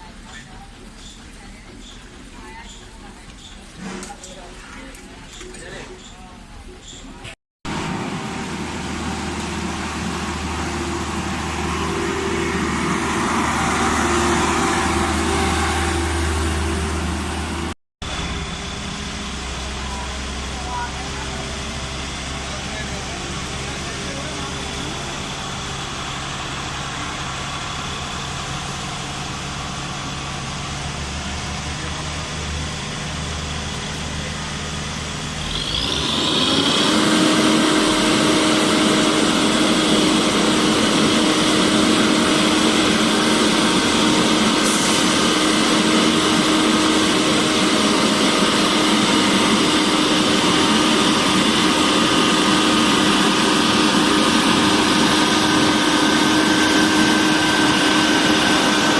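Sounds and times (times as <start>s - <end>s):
construction machinery engine: 0.0s - 58.9s
machine whine: 7.7s - 58.9s.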